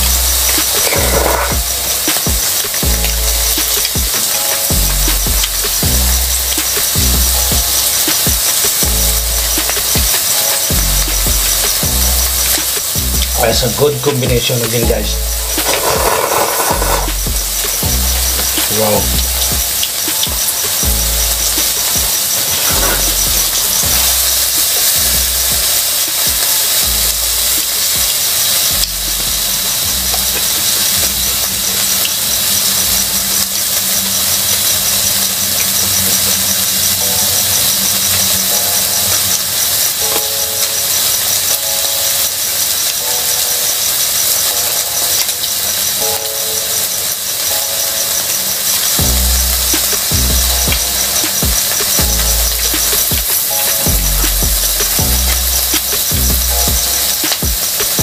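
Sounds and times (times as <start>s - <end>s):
meat sizzling on grill pan: 0.0s - 58.0s.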